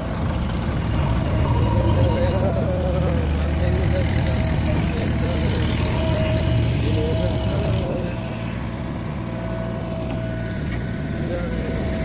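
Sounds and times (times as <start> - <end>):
diesel engine droning: 0.0 - 12.0
thin steady whine: 0.0 - 12.0.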